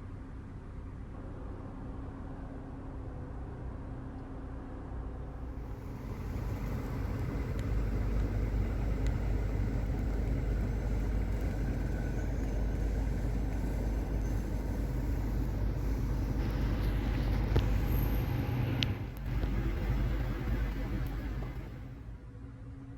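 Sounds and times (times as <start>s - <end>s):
car engine and road rumble: 0.0s - 22.9s.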